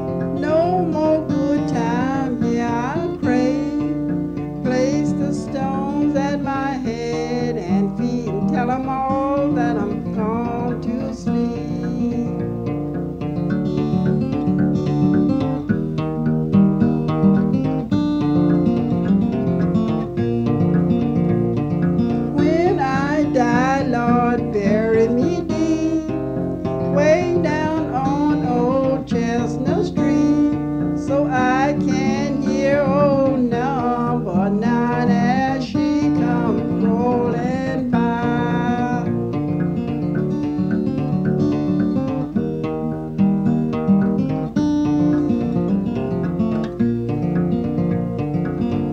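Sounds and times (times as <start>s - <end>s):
acoustic guitar folk music: 0.0s - 48.9s
wavering lead melody: 0.0s - 48.9s.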